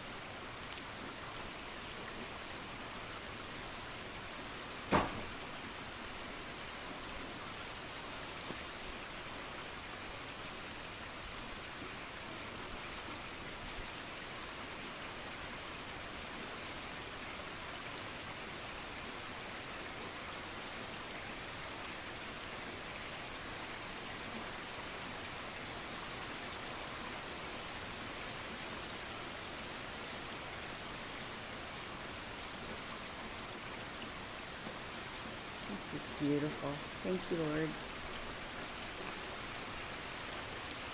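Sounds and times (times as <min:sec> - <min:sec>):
rain pattering on surfaces: 0:00.0 - 0:40.9.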